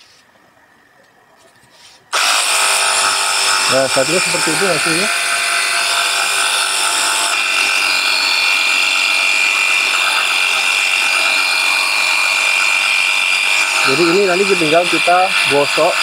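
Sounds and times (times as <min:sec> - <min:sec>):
pressure washer motor whine: 0:02.1 - 0:16.0.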